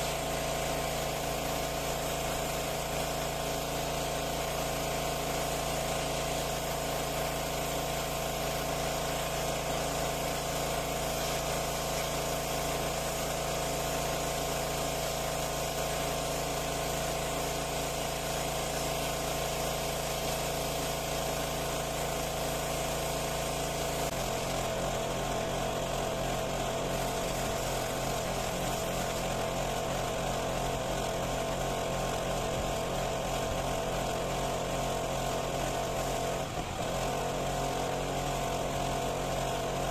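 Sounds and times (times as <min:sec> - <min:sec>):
pressure washer running: 0:00.0 - 0:39.9.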